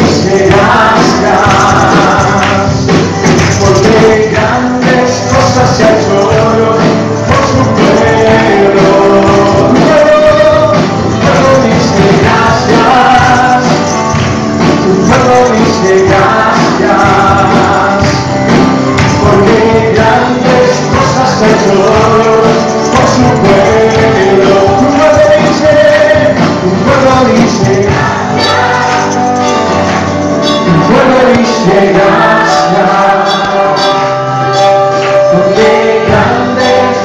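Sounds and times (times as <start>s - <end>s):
choir singing: 0.0s - 2.8s, 3.4s - 14.2s, 14.8s - 18.2s, 19.2s - 26.3s, 27.0s - 30.1s, 30.8s - 34.5s, 35.2s - 37.0s
band playing worship music: 0.0s - 37.0s
tambourines shaking: 0.0s - 37.0s.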